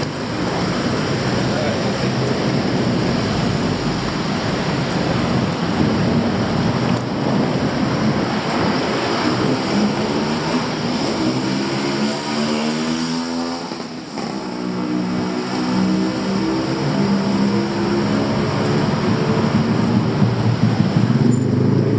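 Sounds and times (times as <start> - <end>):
vehicles passing close by: 0.0 - 21.9.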